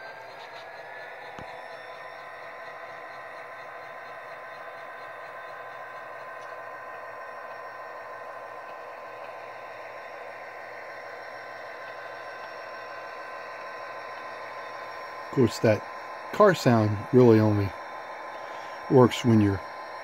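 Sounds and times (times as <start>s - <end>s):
model locomotive diesel drone: 0.0s - 20.0s.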